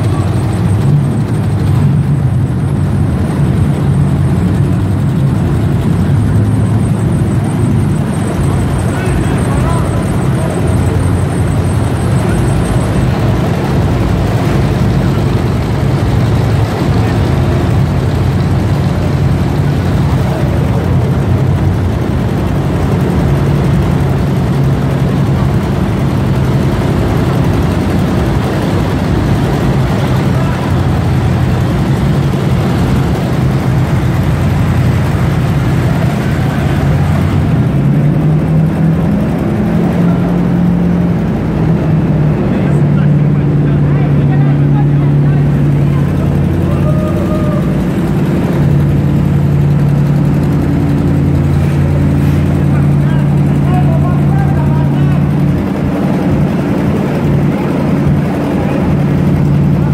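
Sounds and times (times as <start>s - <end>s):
truck engines running in tunnel: 0.0s - 59.9s.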